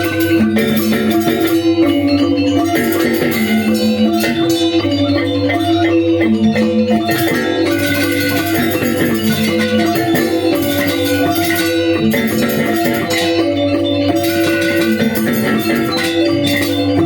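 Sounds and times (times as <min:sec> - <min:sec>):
bronze metallophones ringing: 0:00.0 - 0:17.0
jingling percussion: 0:00.0 - 0:17.0.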